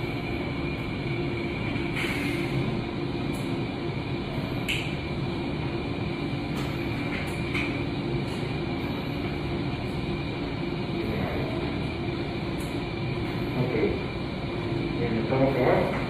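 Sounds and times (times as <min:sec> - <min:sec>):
ventilation hiss and hum: 0:00.0 - 0:16.0.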